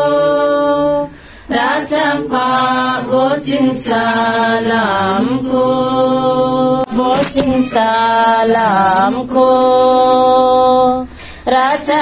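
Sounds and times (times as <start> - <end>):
women singing in unison: 0.0 - 12.0.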